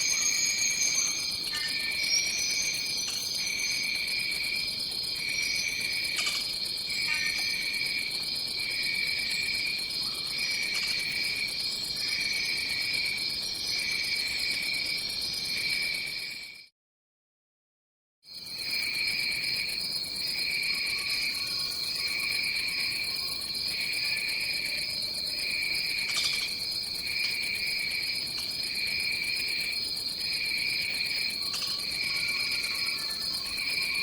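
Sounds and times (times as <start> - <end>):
insects high-pitched drone: 0.0 - 16.4, 18.4 - 34.0
lower pulsing insect trill: 0.0 - 16.6, 18.3 - 34.0.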